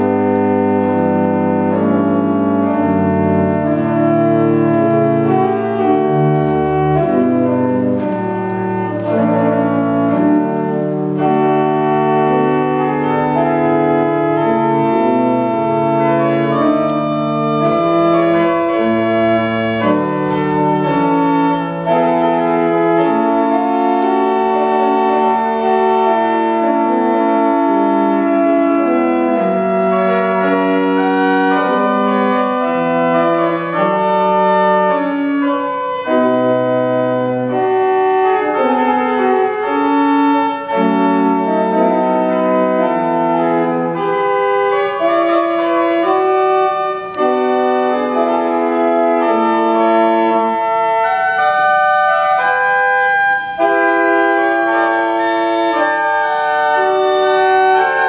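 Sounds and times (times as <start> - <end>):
pipe organ playing sustained chords: 0.0 - 58.0.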